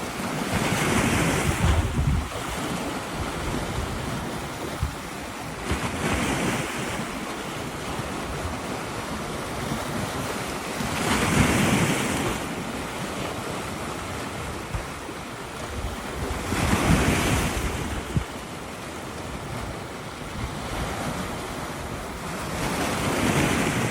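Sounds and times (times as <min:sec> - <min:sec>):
waves breaking on shore: 0:00.0 - 0:23.9.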